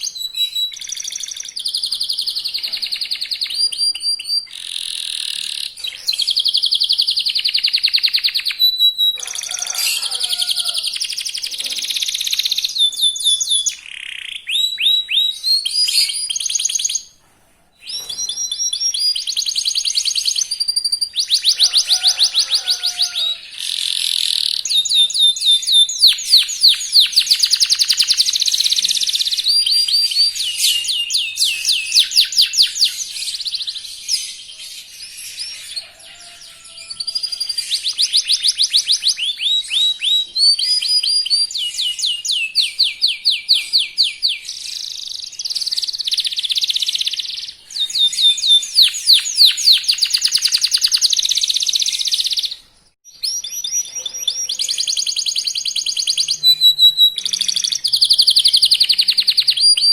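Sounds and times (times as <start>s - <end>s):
canary singing trills: 0.0s - 17.2s, 17.8s - 59.9s.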